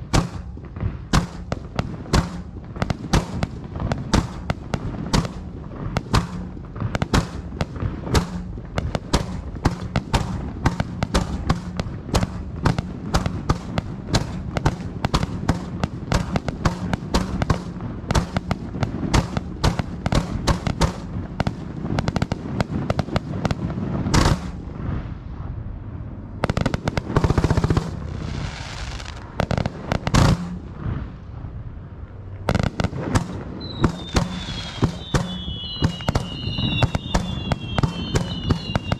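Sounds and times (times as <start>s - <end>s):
fireworks bangs: 0.0s - 38.9s
hissing crackle of fireworks: 0.0s - 38.9s.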